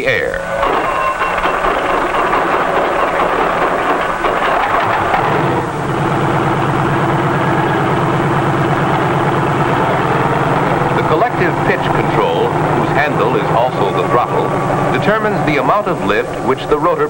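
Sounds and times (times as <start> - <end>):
helicopter engine and rotor: 0.4 - 17.0.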